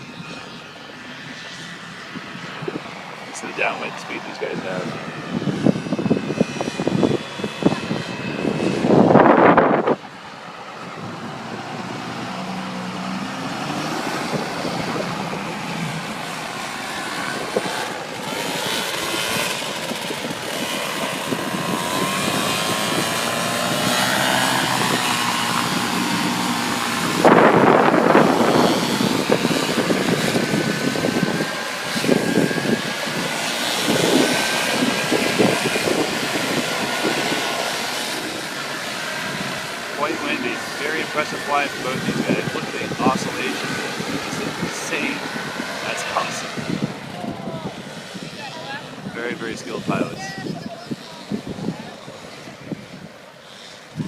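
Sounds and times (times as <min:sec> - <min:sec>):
gusting wind: 0:00.0 - 0:54.0
paramotor engines flying past: 0:00.0 - 0:54.0
wind noise on microphone: 0:00.0 - 0:54.0.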